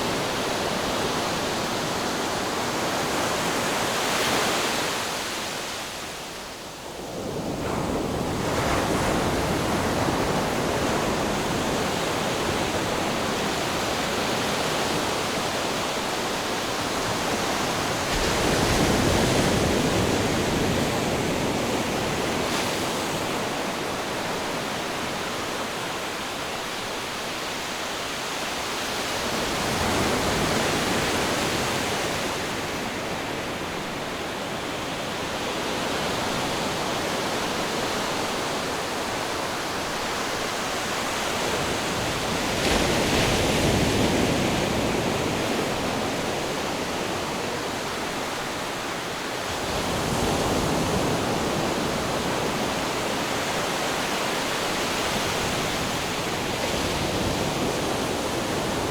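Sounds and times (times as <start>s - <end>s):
ocean surf waves: 0.0s - 58.9s.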